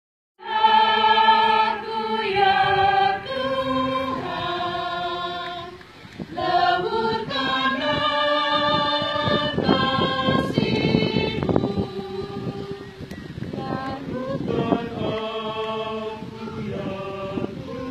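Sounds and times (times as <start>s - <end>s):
choir singing a hymn: 0.4s - 17.9s.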